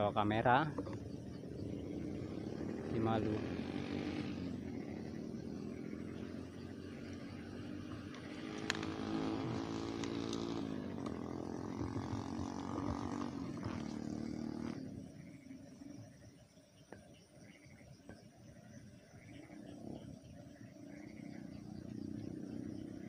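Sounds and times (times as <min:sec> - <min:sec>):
engine running: 0:00.0 - 0:16.2, 0:18.9 - 0:23.0.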